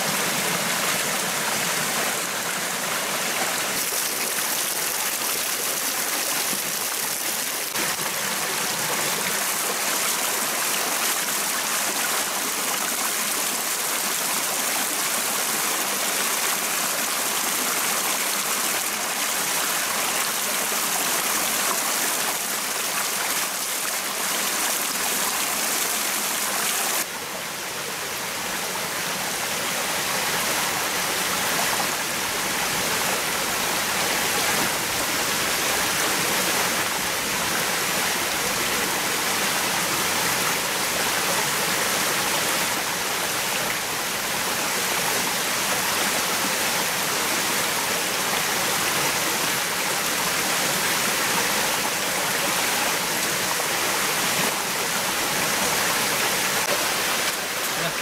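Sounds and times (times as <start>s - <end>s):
rushing forest stream: 0.0s - 58.0s.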